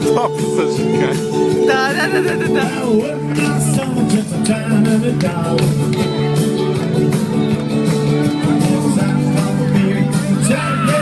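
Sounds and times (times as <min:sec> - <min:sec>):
rock and roll dance music: 0:00.0 - 0:11.0.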